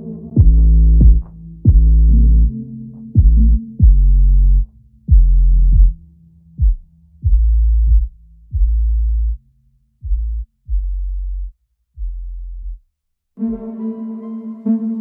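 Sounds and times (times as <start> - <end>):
deep electronic bass notes: 0.0 - 12.8.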